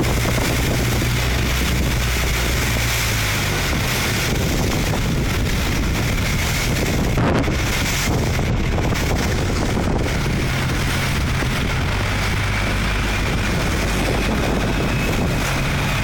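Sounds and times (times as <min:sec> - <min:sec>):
boat engine droning: 0:00.0 - 0:16.0
wind buffeting microphone: 0:00.0 - 0:16.0.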